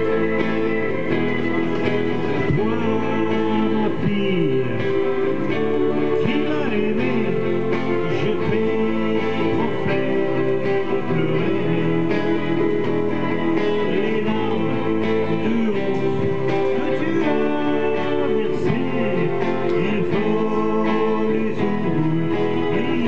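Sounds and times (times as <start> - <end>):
electric guitar strumming: 0.0 - 23.0
man singing: 2.2 - 23.0.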